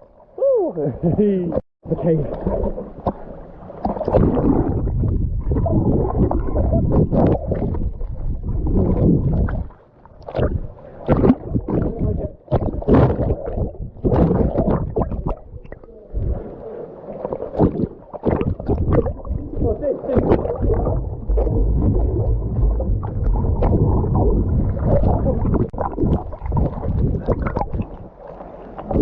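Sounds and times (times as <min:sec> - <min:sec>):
muffled sea water sloshing: 0:00.0 - 0:29.0.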